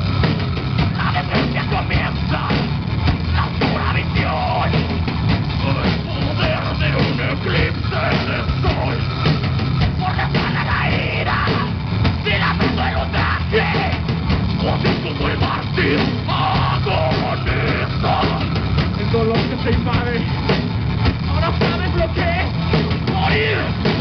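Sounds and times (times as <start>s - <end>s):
drum kit: 0.0s - 24.0s
electric guitars: 0.0s - 24.0s.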